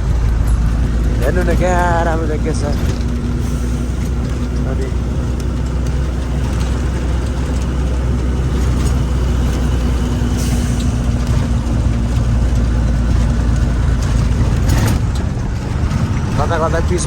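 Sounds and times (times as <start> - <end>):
road noise: 0.0 - 17.0
truck engine rumbling: 0.0 - 17.0.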